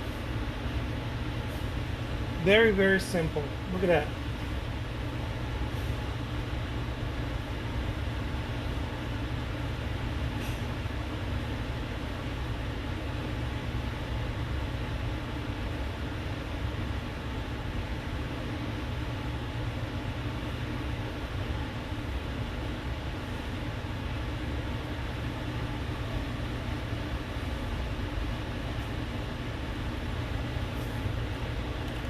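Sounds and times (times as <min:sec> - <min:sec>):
room noise rumble and hiss: 0:00.0 - 0:32.0.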